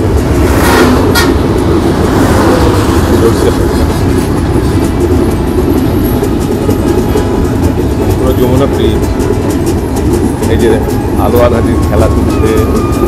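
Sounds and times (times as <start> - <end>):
road traffic: 0.0 - 13.0
sharp train clacks: 0.0 - 13.0
train rumbling and rattling: 0.0 - 13.0.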